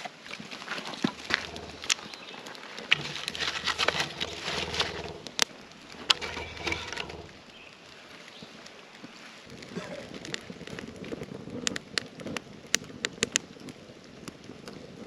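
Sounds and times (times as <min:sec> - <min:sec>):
campfire wood cracking: 0:00.0 - 0:15.0.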